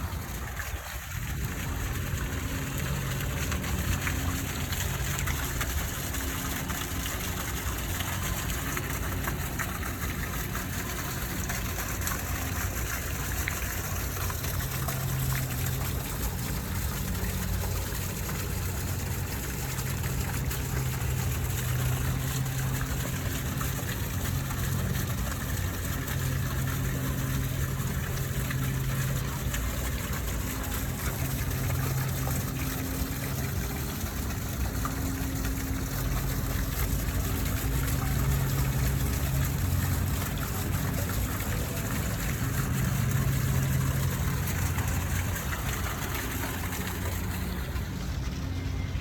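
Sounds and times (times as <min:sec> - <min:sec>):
fountain water splashing: 0:00.0 - 0:49.0.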